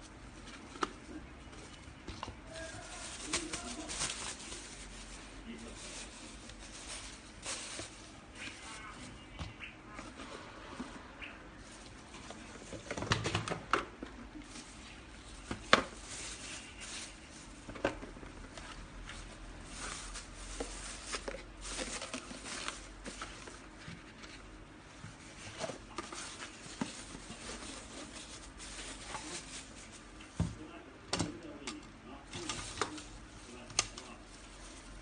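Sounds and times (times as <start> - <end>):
plastic bag rustling: 0.0 - 30.6, 32.3 - 35.0.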